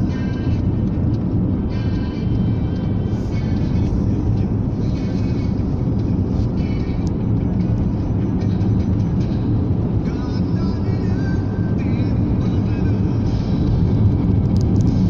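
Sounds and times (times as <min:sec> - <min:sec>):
car driving over rough road: 0:00.0 - 0:15.0
faint car radio: 0:00.0 - 0:15.0.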